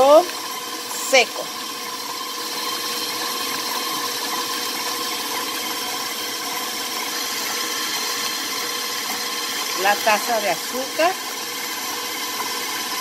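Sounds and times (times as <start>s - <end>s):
electric mixer whirring: 0.0s - 13.0s.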